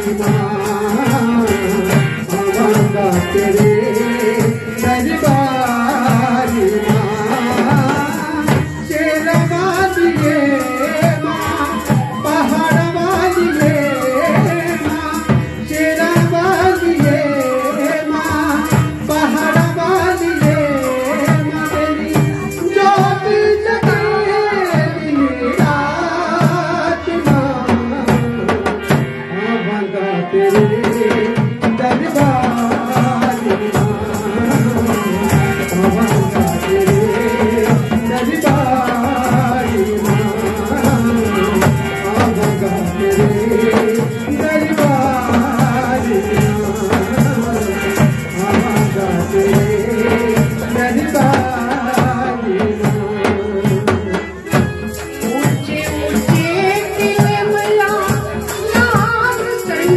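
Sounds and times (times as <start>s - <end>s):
hand drum beat: 0.0s - 29.1s, 30.5s - 59.9s.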